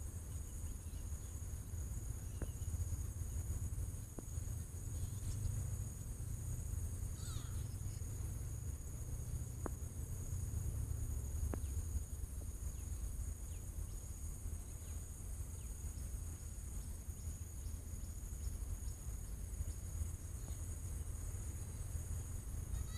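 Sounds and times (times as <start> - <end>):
insects trilling: 0.0 - 22.9
low steady rumble: 0.0 - 22.9.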